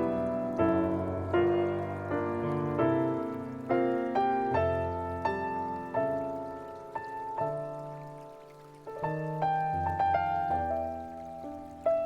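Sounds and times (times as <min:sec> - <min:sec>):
slow gentle piano music: 0:00.0 - 0:12.0.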